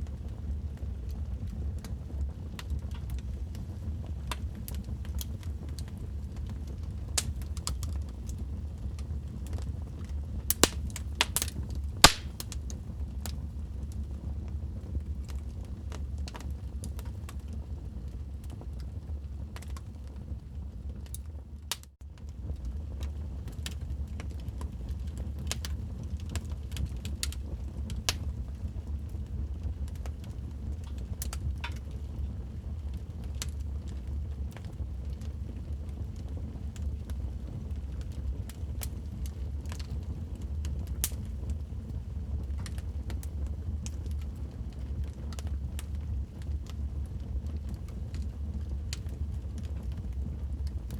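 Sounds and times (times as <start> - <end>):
low rumble of burning logs: 0.0 - 50.9
wood fire crackling: 0.0 - 50.9.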